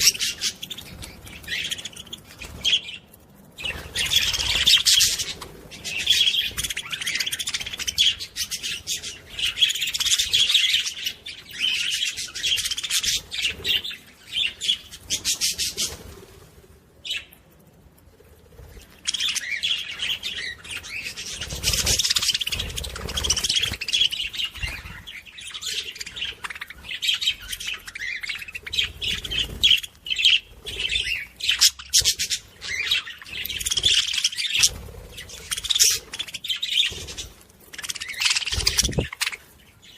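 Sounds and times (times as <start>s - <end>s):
parrots chirping and chattering: 0.0s - 16.3s, 17.0s - 39.9s.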